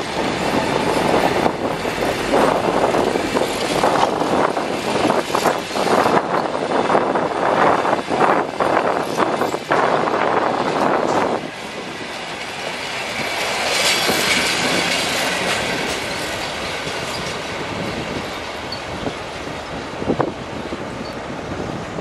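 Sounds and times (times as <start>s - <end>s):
train wheels clattering over rail joints: 0.0s - 21.2s.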